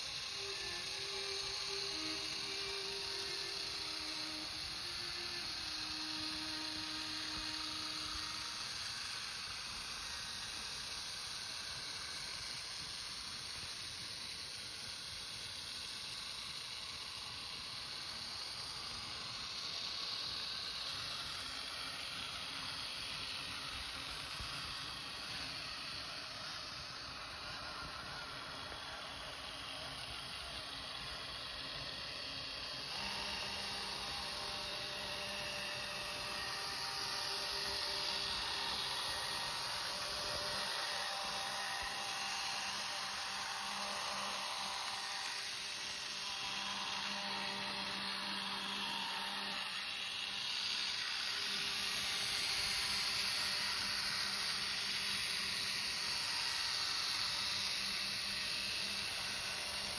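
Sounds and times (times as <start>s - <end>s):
model train motor humming: 0.0s - 59.9s
wheels hissing on rails: 0.0s - 59.9s.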